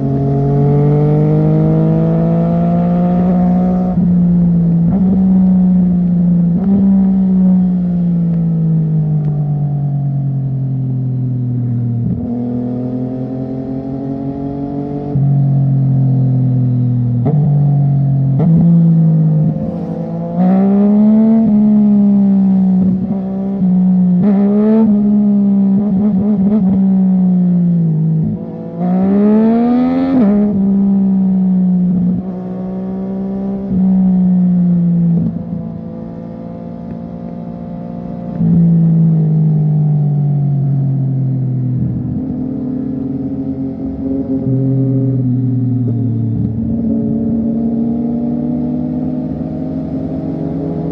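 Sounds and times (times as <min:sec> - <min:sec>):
motorcycle engine revving: 0:00.0 - 0:07.9, 0:11.6 - 0:40.0, 0:41.5 - 0:50.9.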